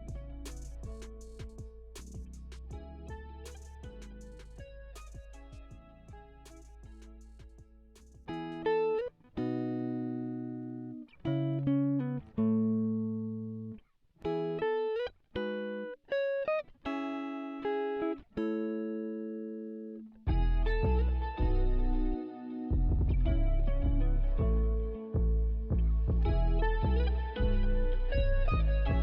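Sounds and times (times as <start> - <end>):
plucked-string melody: 0.0 - 29.0.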